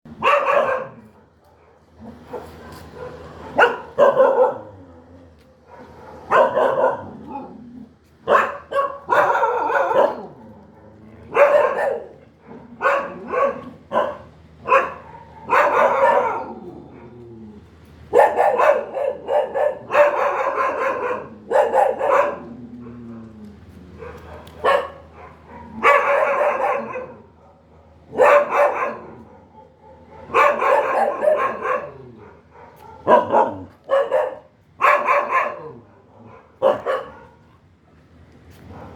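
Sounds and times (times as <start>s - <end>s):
dog barking: 0.1s - 4.8s, 5.6s - 7.4s, 8.2s - 17.2s, 18.1s - 22.5s, 24.0s - 37.7s, 38.7s - 38.9s.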